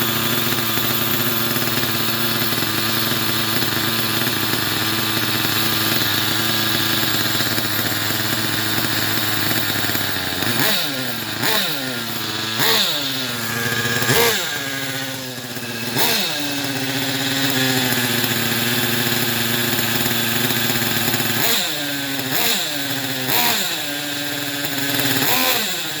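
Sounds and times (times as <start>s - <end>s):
model car engine revving: 0.0s - 26.0s.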